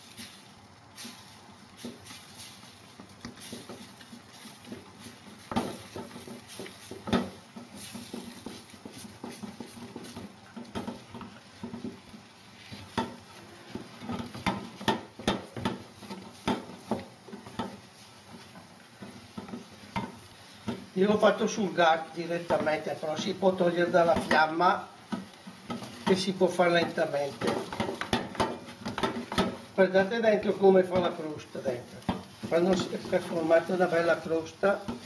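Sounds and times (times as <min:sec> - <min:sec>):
wooden spoon knocking and scraping pan: 0:01.0 - 0:35.0.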